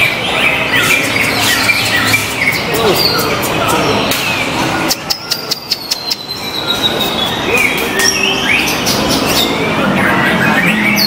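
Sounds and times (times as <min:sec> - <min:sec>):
birds singing whistles and trills: 0:00.0 - 0:11.0.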